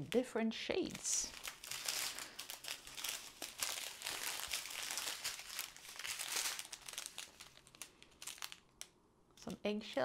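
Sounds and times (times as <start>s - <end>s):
plastic bags crinkling: 0.8s - 9.0s.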